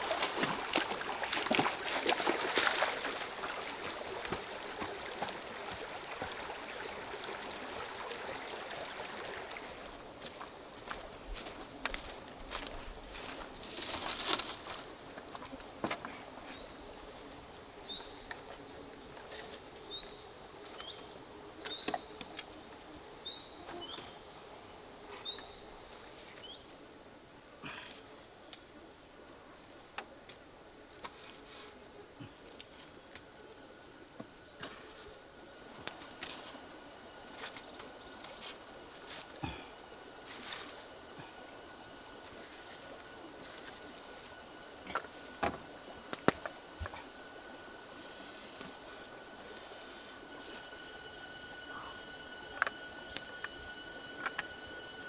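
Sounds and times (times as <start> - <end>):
high-pitched insect drone: 0.0 - 55.0
insect chirps: 0.0 - 55.0.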